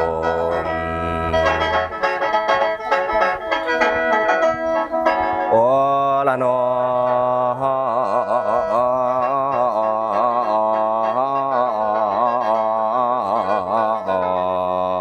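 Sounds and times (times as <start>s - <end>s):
man singing wavering line: 0.0s - 2.4s, 5.3s - 15.0s
mouth organ drone: 0.0s - 15.0s.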